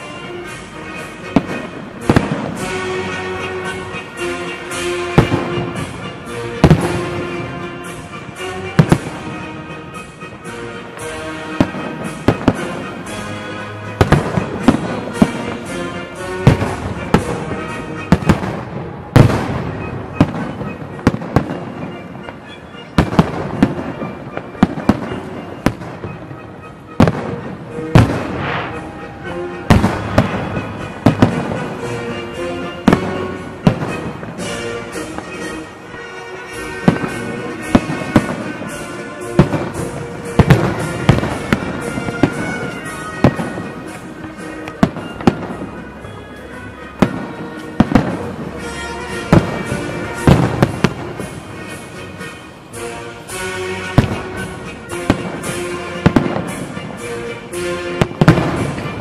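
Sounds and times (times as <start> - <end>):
fireworks bursting: 0.0 - 59.0
music playing: 0.0 - 59.0.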